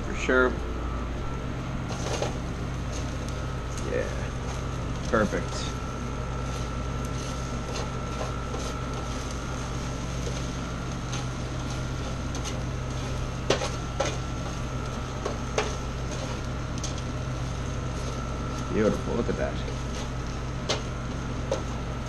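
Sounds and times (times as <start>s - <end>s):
kitchen fan hum: 0.0s - 22.0s.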